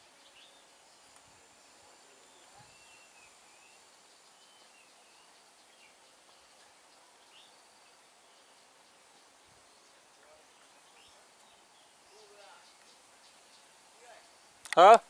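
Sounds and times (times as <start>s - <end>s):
bird chirps: 0.0s - 14.4s
faint outdoor ambience: 0.0s - 15.0s.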